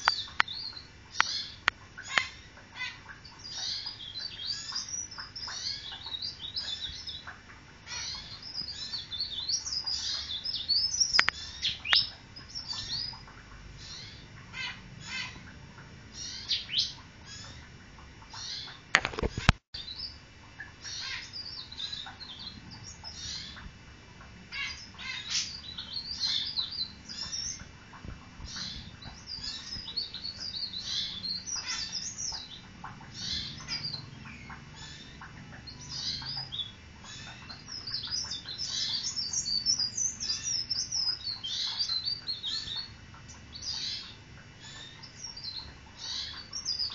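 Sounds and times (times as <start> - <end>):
warbler singing: 0.0 - 46.9.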